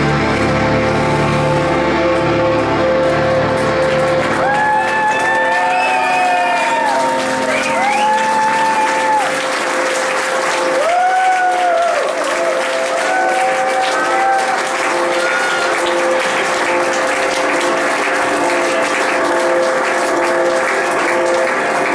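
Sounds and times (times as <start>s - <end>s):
audience applauding and cheering: 0.0s - 21.9s
instrumental drone: 0.0s - 21.9s.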